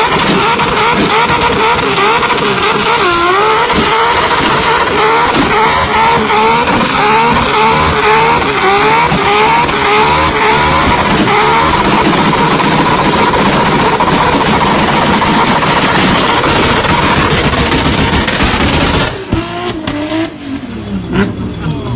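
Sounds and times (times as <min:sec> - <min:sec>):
steady rush of noise: 0:00.0 - 0:19.3
car engine revving hard: 0:00.0 - 0:21.9.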